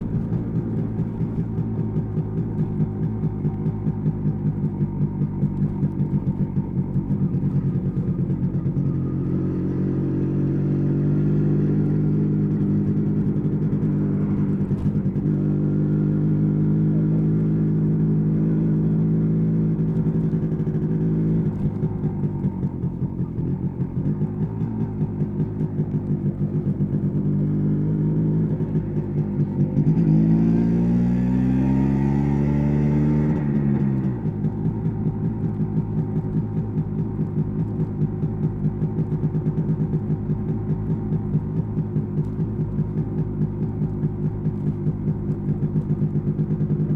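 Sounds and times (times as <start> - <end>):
two-stroke engine running and revving: 0.0 - 46.9.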